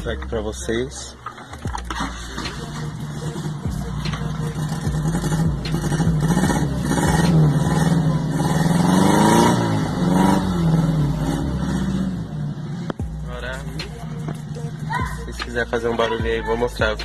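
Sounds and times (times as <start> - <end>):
car engine revving: 1.7 - 17.0.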